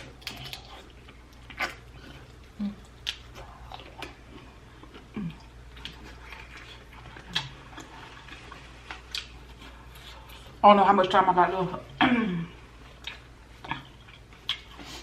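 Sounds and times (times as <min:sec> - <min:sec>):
person chewing wetly: 0:00.0 - 0:10.6, 0:12.7 - 0:15.0.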